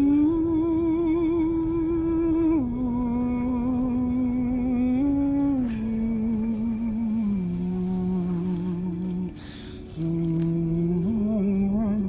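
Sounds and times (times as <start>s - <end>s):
person humming eerie tune: 0.0s - 12.0s.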